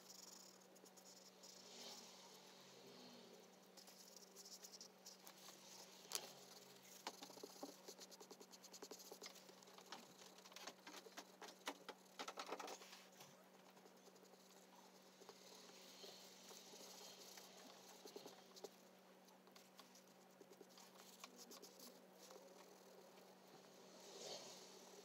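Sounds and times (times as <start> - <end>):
pastel scratching on paper: 3.6 - 11.8, 12.4 - 18.8, 19.5 - 25.0.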